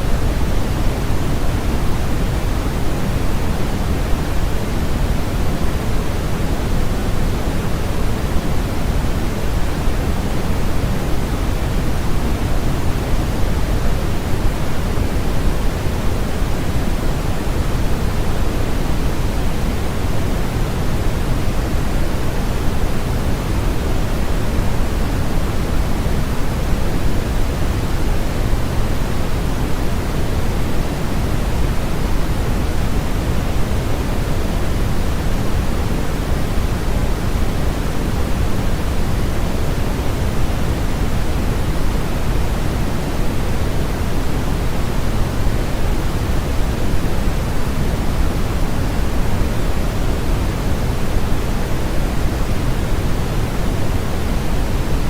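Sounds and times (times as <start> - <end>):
white noise: 0.0 - 55.0.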